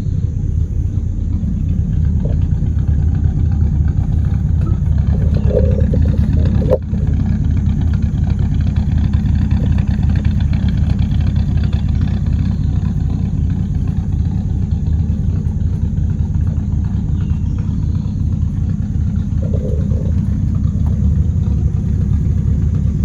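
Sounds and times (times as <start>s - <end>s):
pickup engine rumble: 0.0s - 23.0s
road noise: 0.0s - 23.0s.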